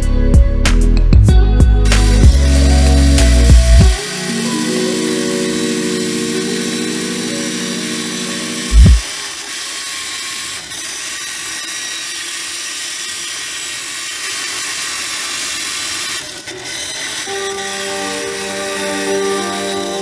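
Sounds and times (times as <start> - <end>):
power tool running: 1.8 - 20.0.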